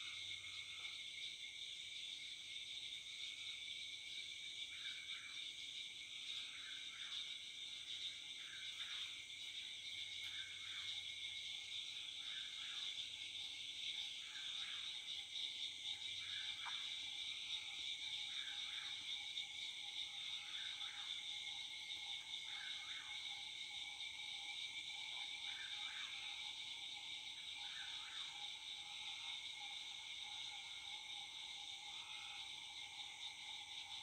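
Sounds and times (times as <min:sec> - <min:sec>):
frogs and insects droning: 0:00.0 - 0:34.0.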